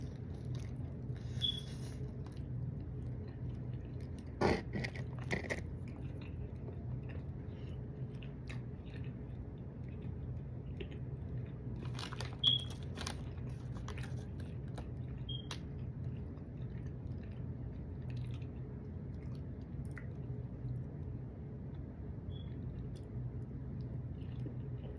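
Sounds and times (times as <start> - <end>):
biting and chewing food: 0.0 - 20.4
steady low hum: 0.0 - 24.9.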